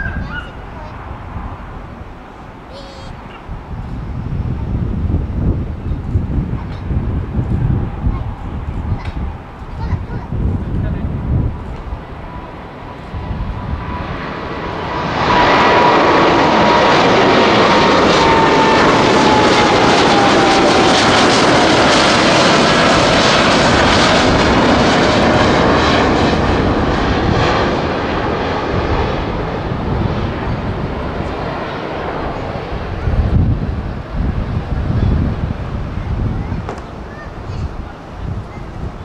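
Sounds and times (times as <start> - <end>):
jet engine roar: 0.0 - 39.0.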